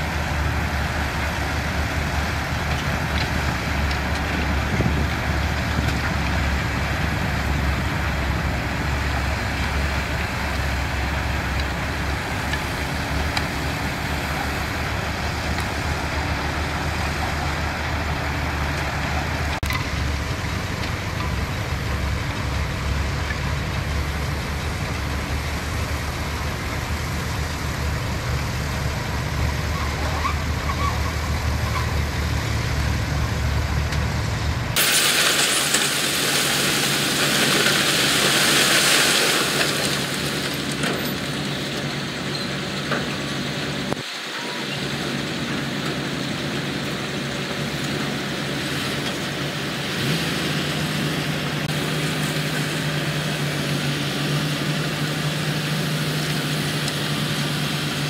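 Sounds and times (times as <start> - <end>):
heavy diesel engines rumbling: 0.0 - 58.0.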